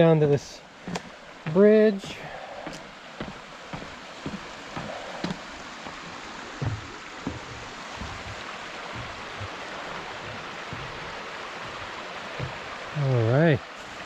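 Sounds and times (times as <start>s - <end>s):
creek flowing over rocks: 0.0s - 14.0s
footsteps thudding: 0.8s - 12.8s.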